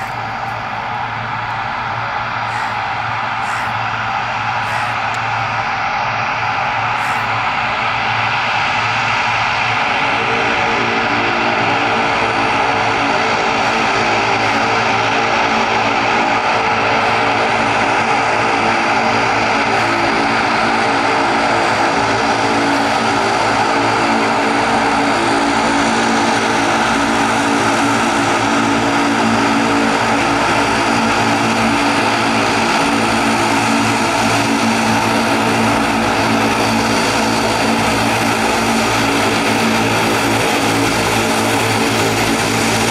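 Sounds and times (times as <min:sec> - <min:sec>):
turboprop engines running: 0:00.0 - 0:42.9.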